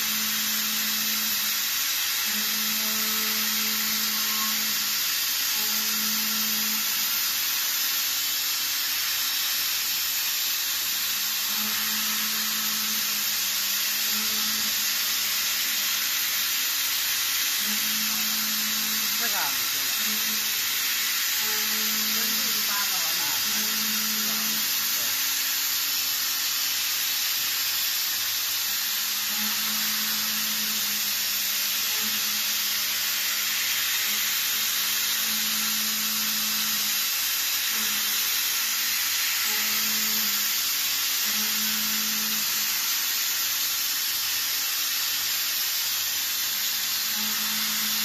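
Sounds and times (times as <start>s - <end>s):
milling machine cutting metal: 0.0s - 48.0s.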